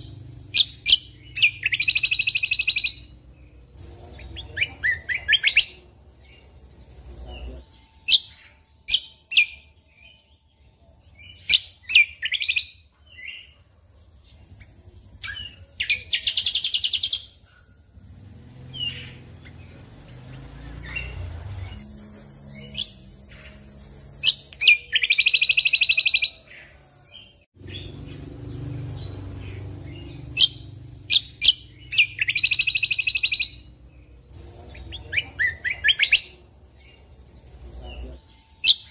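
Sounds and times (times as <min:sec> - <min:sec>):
buzzy rattling bird trills: 0:00.0 - 0:38.9.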